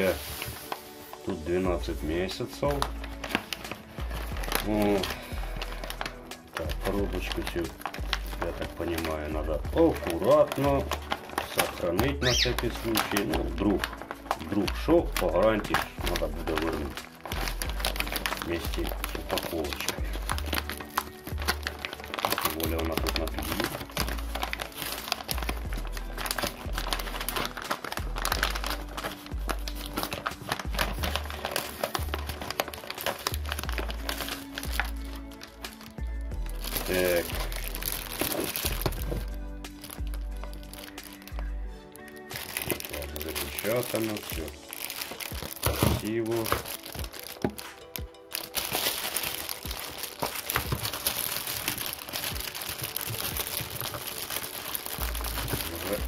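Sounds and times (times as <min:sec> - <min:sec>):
paper mailer crinkling: 0:00.0 - 0:35.9, 0:36.6 - 0:56.0
background music with bass: 0:00.0 - 0:48.5, 0:54.9 - 0:56.0.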